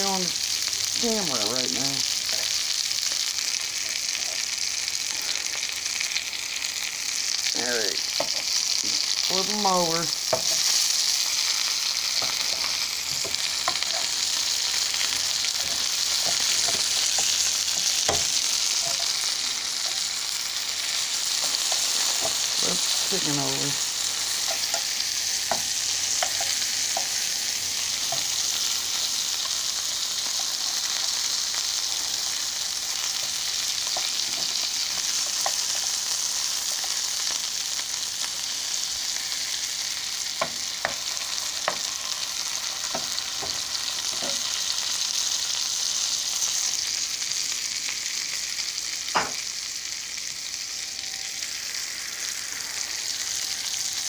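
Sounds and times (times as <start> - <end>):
chicken sizzling in butter: 0.0 - 54.0.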